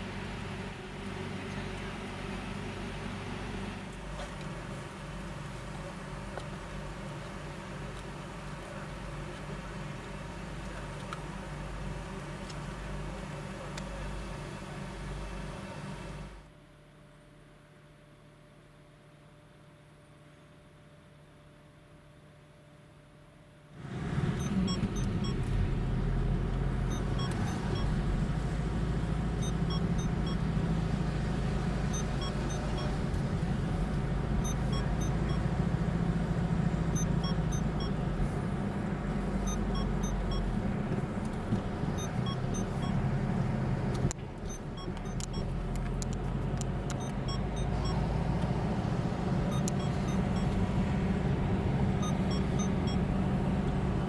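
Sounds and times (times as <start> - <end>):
car engine and road rumble: 0.0 - 16.5, 23.8 - 54.0.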